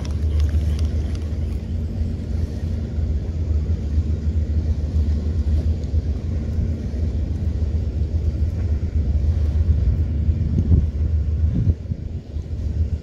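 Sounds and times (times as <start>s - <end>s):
low microphone rumble: 0.0s - 13.0s.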